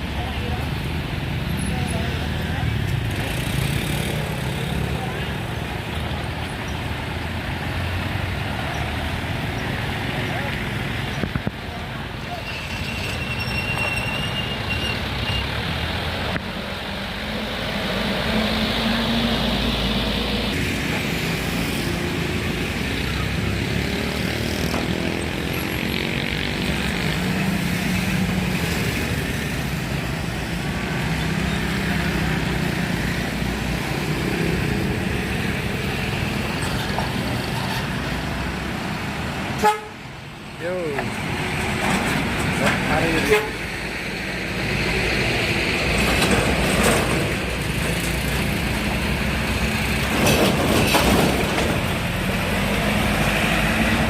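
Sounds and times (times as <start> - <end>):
truck and car engines passing: 0.0 - 54.0.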